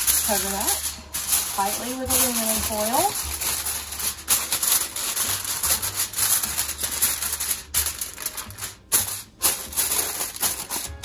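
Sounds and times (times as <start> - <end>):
aluminum foil crinkling: 0.0 - 11.0.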